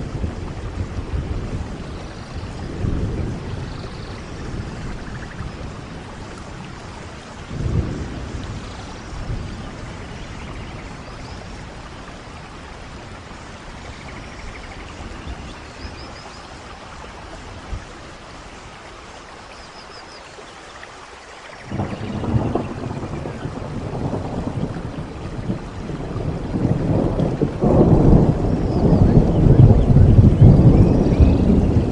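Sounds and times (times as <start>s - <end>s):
low rumble of thunder: 0.0s - 19.2s, 21.6s - 31.9s
steady rainfall: 0.0s - 31.9s.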